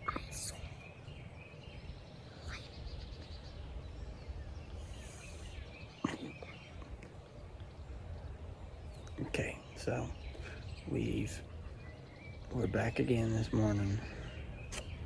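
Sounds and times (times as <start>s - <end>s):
bird chirps: 0.0s - 15.0s
wind rumble: 0.0s - 15.0s.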